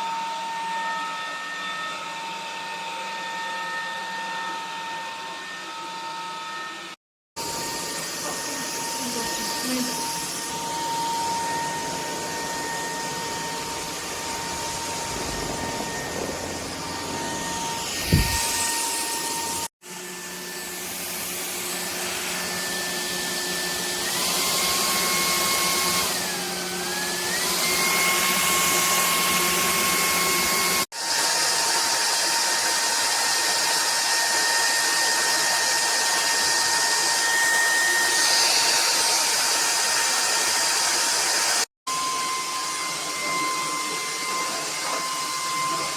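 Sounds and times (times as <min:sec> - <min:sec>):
stick vacuum cleaner whining: 0:00.0 - 0:45.9.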